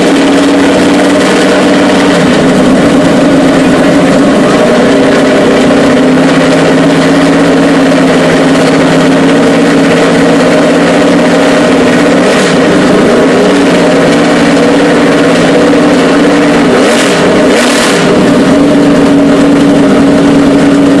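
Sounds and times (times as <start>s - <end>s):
engine throttle blips: 0.0s - 21.0s
race car engine idling: 0.0s - 21.0s.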